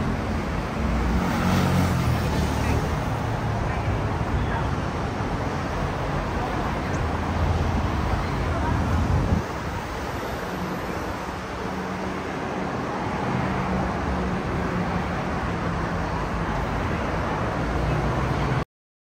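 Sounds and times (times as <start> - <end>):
city road traffic: 0.0 - 18.7.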